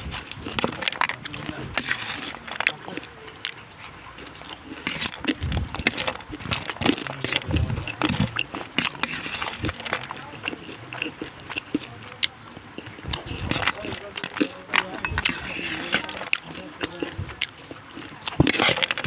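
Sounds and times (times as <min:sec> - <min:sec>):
crunchy chewing and mouth smacks: 0:00.0 - 0:19.0.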